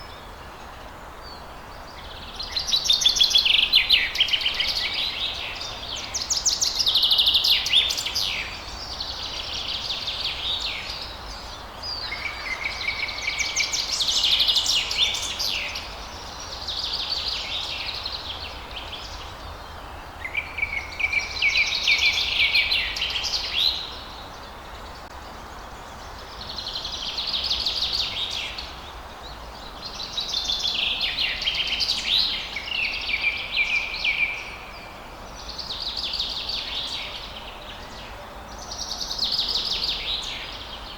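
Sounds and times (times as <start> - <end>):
songbirds twittering: 0.0 - 40.9.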